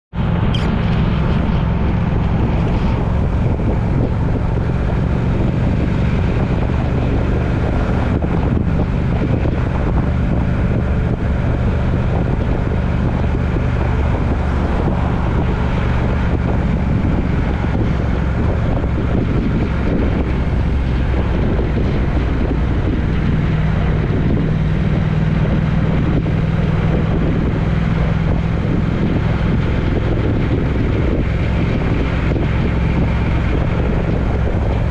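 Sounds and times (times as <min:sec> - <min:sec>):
road and wind noise: 0:00.1 - 0:34.9
vehicle engine hum: 0:00.1 - 0:34.9.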